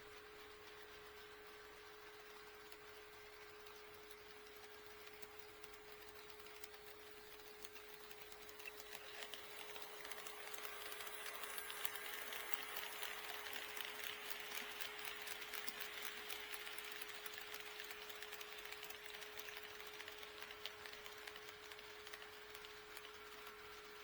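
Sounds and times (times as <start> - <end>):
model train wheels clicking on rails: 0.0 - 24.0.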